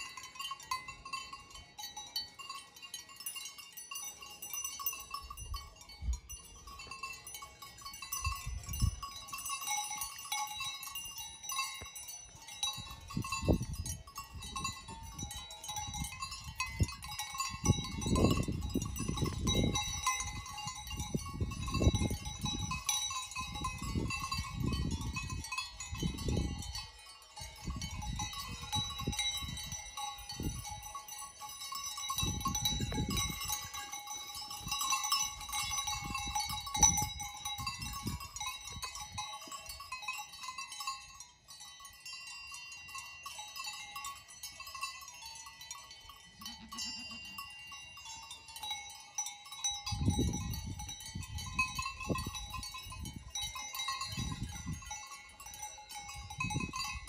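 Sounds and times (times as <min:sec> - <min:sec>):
livestock bells ringing: 0:00.0 - 0:57.0.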